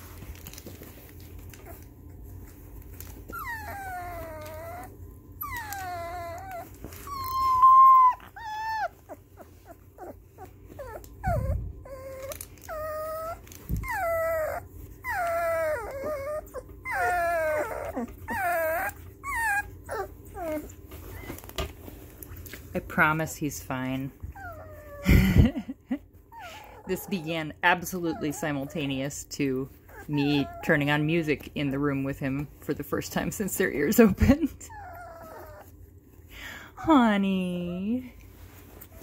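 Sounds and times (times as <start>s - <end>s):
puppy whimpering and crying: 0.7s - 22.0s, 23.8s - 32.5s, 33.4s - 36.1s.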